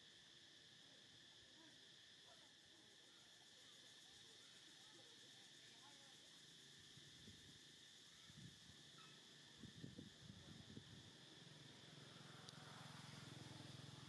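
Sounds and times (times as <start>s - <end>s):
faint high-pitched insect drone: 0.0s - 14.0s.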